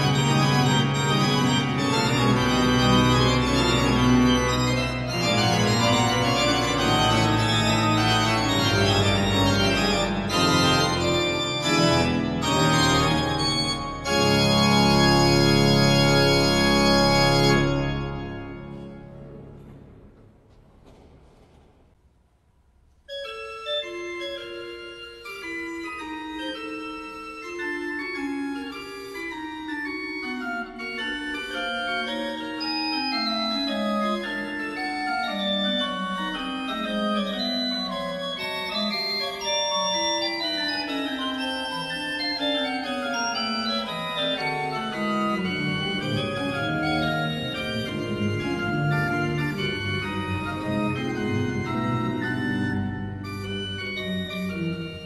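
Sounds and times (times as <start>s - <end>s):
pipe organ fugue: 0.0s - 20.4s, 23.1s - 55.0s
deep organ pedal notes: 0.0s - 21.1s, 23.2s - 55.0s.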